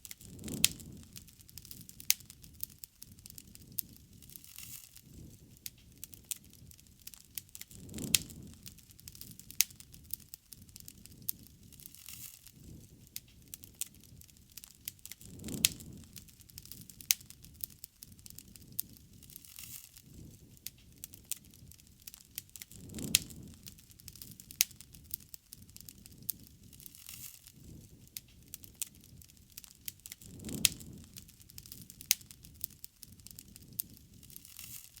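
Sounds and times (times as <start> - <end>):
bonfire crackling and popping: 0.0 - 35.0.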